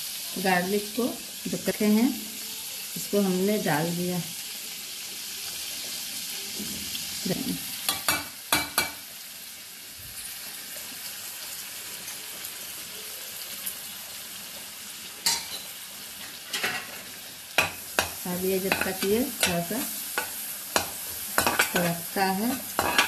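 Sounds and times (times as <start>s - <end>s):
garlic sizzling in butter: 0.0s - 23.0s.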